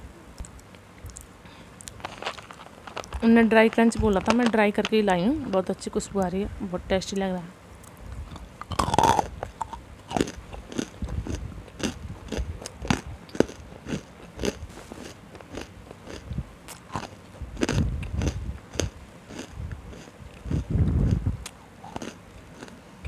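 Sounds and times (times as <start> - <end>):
crunchy food being chewed: 0.3 - 4.6, 7.8 - 23.0.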